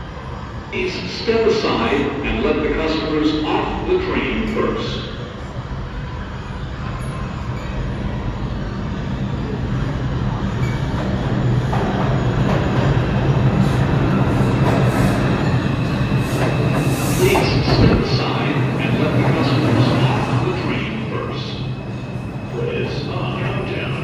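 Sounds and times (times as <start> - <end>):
subway train rumbling: 0.0 - 24.0.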